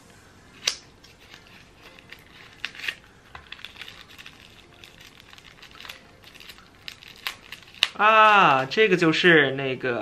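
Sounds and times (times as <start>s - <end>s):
paper packaging crinkling: 0.6s - 8.9s.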